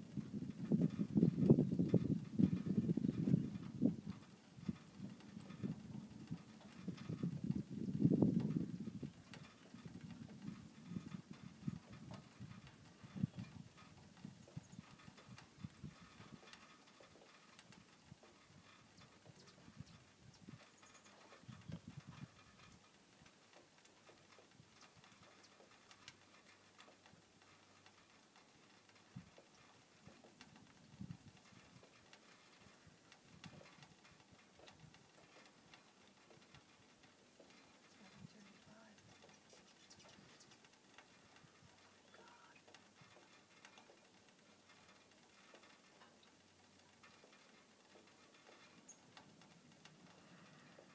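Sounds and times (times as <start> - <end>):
faint irregular clicks: 0.0 - 50.9
soft hiss: 0.0 - 50.9.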